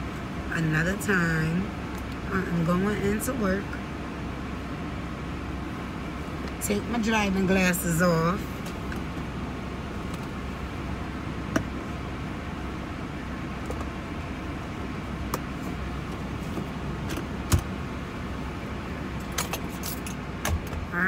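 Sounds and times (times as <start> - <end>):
low hum in truck cabin: 0.0 - 21.0.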